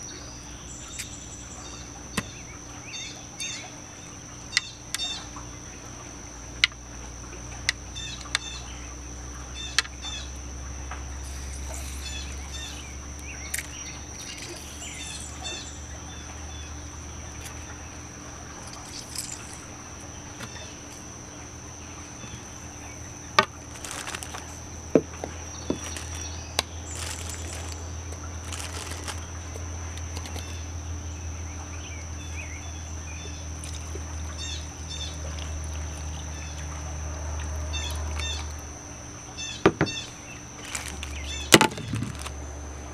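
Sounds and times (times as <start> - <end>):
birds chirping: 0.0 - 6.4, 7.6 - 42.9
high-pitched insect drone: 0.0 - 42.9.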